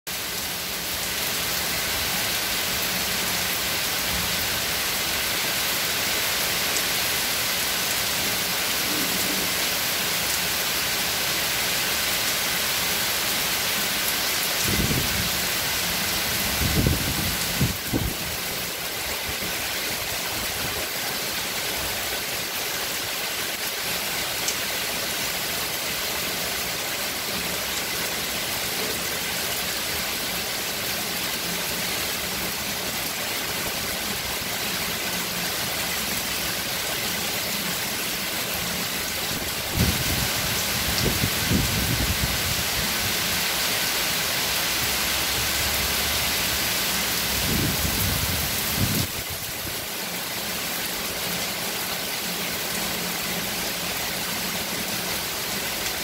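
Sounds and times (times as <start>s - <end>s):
heavy rain pouring: 0.1s - 56.0s.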